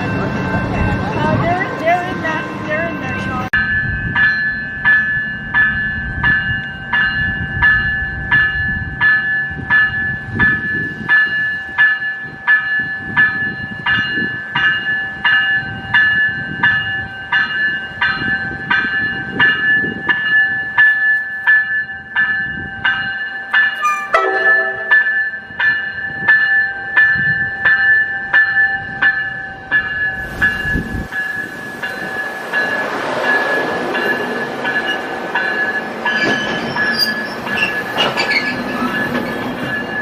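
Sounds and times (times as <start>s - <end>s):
railway bell ringing: 0.0s - 40.0s.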